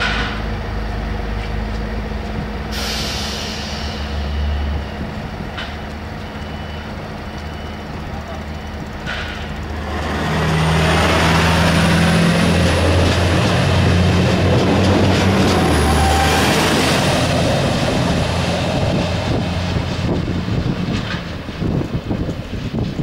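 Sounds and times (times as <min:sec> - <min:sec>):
diesel engine drone: 0:00.0 - 0:23.0
wheels rumbling on rail: 0:00.0 - 0:23.0.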